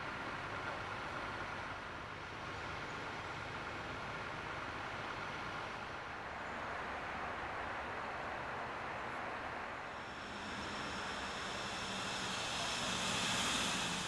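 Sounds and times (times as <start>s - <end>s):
outdoor background hiss and rumble: 0.0s - 14.0s.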